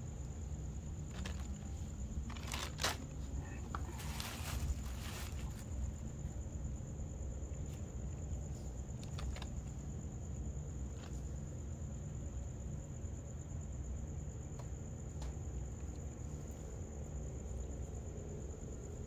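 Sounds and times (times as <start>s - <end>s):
cricket trilling: 0.0s - 19.0s
low steady rumble: 0.0s - 19.0s.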